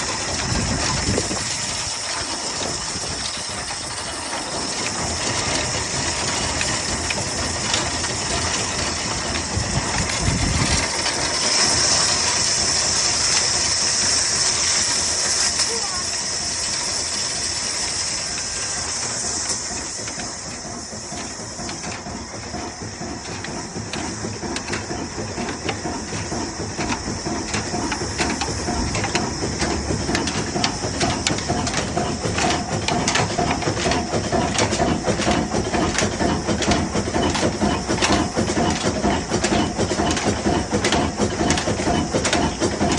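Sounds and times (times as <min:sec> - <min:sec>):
diesel engine starting and running: 0:00.0 - 0:42.9
hiss: 0:00.0 - 0:42.9.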